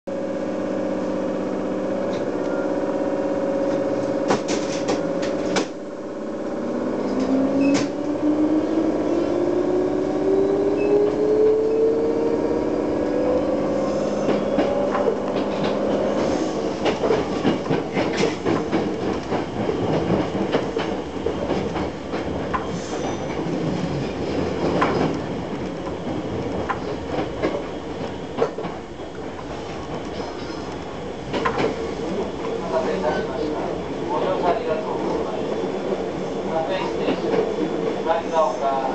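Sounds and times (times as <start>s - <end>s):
train motor hum and whine: 0.1s - 38.9s.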